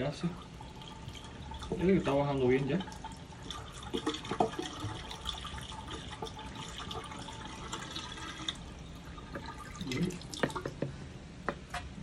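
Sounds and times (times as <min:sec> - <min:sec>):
water pouring into drain line: 0:00.0 - 0:10.7.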